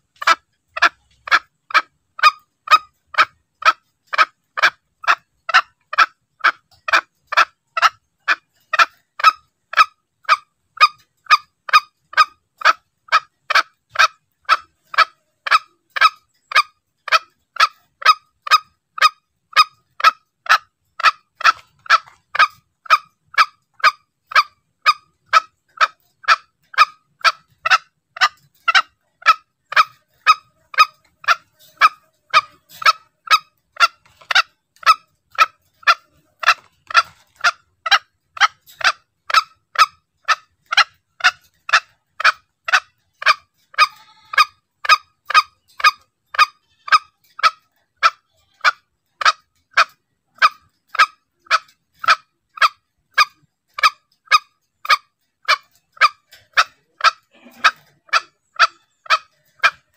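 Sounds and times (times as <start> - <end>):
junglefowl calling: 0.0 - 59.9.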